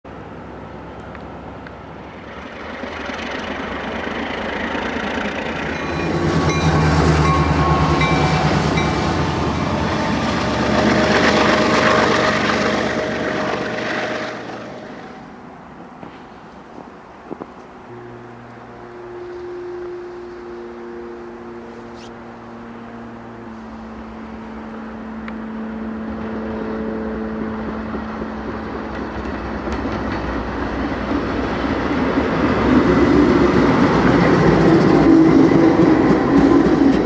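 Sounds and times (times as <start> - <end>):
freight train passing: 0.0 - 37.0.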